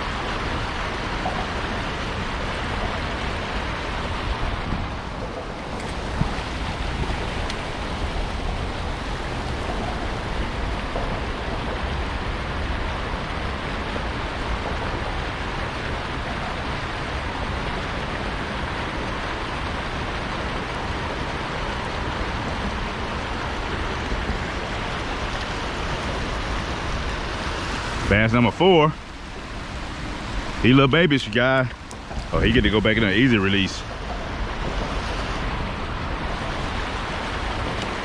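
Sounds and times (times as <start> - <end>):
water rushing over spillway: 0.0 - 38.0.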